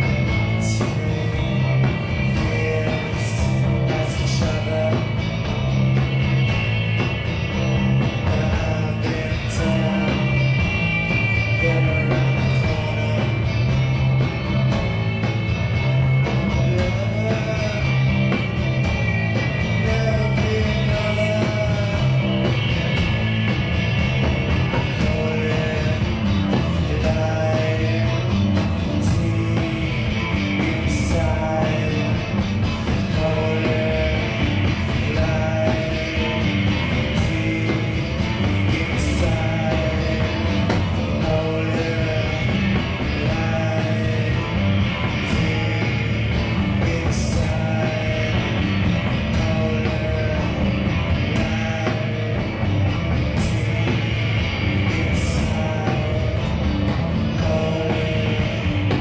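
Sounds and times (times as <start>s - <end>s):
person singing: 0.0s - 6.2s, 8.0s - 14.2s, 15.8s - 23.3s, 24.6s - 59.0s
bass guitar: 0.0s - 59.0s
drums: 0.0s - 59.0s
electric guitar: 0.0s - 59.0s.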